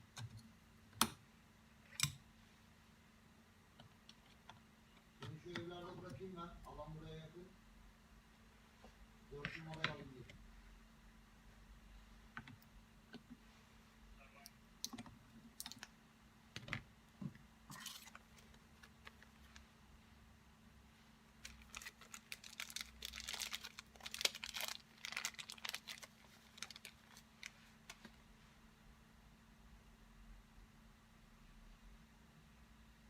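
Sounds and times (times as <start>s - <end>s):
faint hum: 0.0s - 33.0s.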